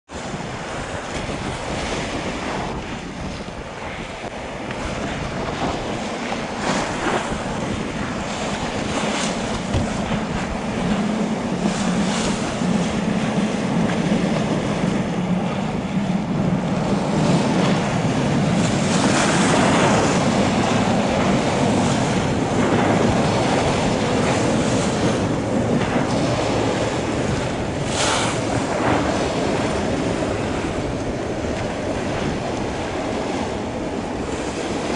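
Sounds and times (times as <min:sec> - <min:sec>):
boat engine drone: 0:00.1 - 0:34.9
waves splashing: 0:00.1 - 0:34.9
wind buffeting microphone: 0:00.1 - 0:34.9.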